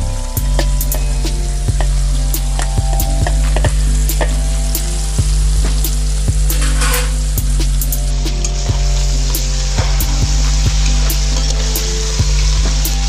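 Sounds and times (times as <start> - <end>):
steady low hum: 0.0 - 13.0
oil pops and crackles: 0.4 - 13.0.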